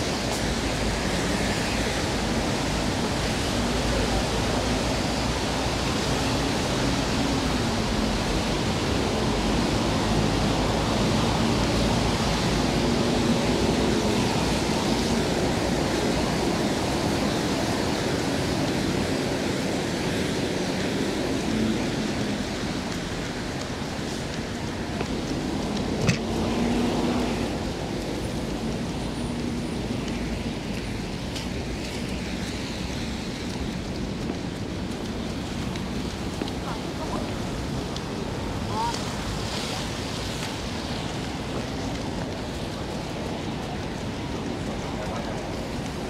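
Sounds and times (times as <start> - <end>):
rain: 0.0 - 46.0
traffic on wet street: 0.0 - 46.0.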